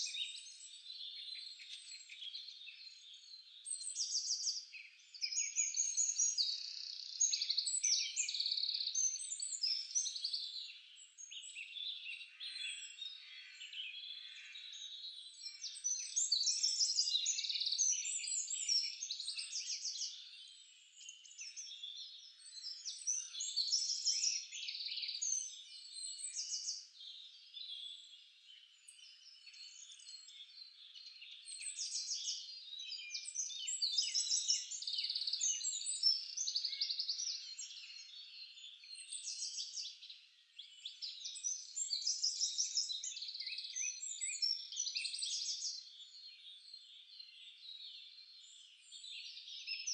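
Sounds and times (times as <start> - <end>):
small birds chirping and trilling: 0.0 - 49.9.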